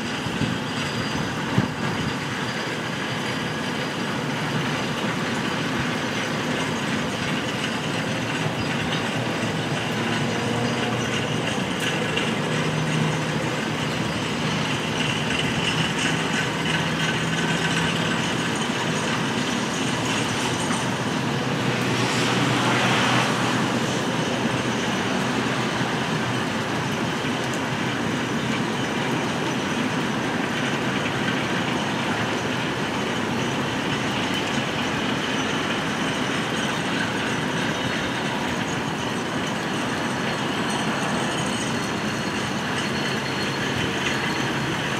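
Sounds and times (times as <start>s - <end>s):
rail dollies rumbling along track: 0.0s - 44.9s
rain falling: 0.2s - 44.9s.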